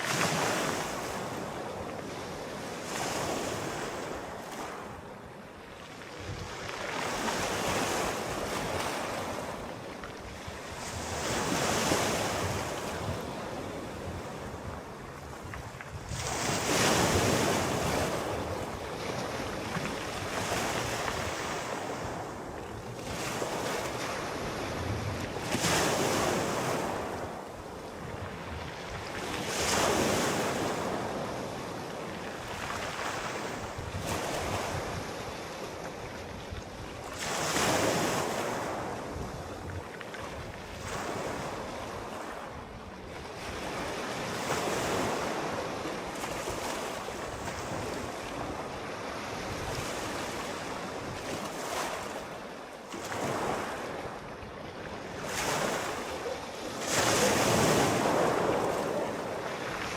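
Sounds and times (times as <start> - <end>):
sea waves washing on shore: 0.0 - 59.9.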